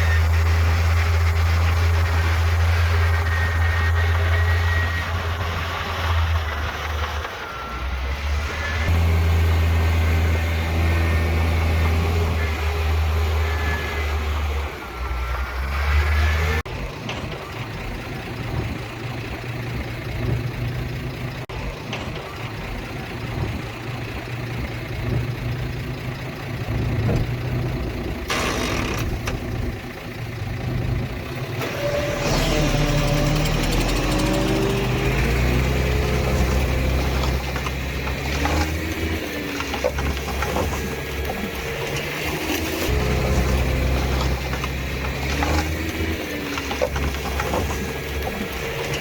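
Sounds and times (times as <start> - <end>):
heavy diesel machinery engine: 0.0 - 49.0.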